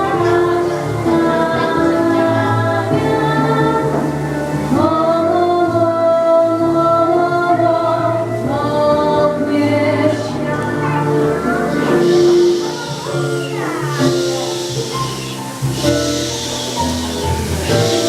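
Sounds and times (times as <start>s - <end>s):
backing music with bass line: 0.0s - 18.0s
person singing a melody: 0.0s - 18.0s.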